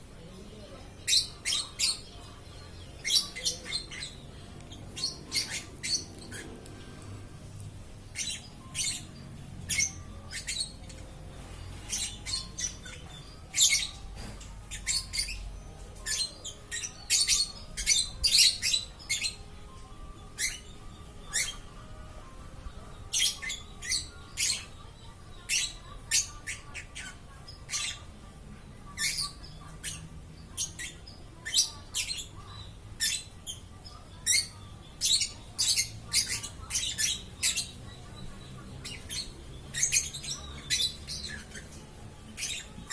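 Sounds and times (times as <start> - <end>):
lovebird squawking and chirping: 1.0 - 24.8, 25.4 - 42.9.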